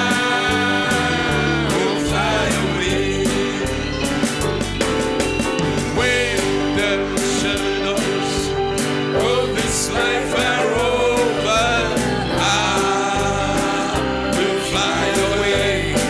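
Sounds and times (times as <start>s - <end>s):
person singing: 0.0s - 4.3s, 5.9s - 16.0s
guitar accompaniment: 0.0s - 16.0s.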